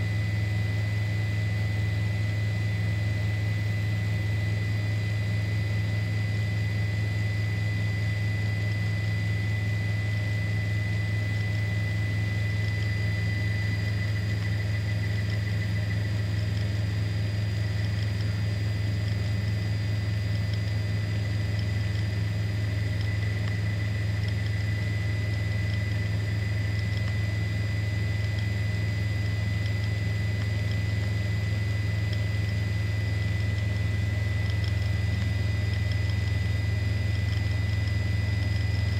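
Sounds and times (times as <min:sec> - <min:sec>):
helicopter engine drone: 0:00.0 - 0:38.9
high-pitched whine: 0:00.0 - 0:38.9.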